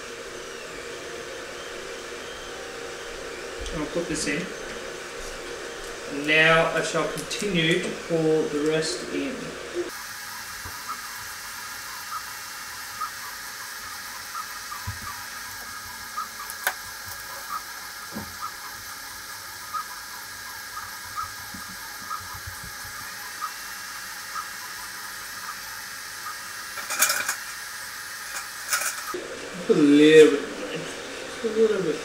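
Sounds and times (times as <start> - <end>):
stepper motor chirps: 0.0 - 29.2
three d printer whirring: 0.0 - 32.0.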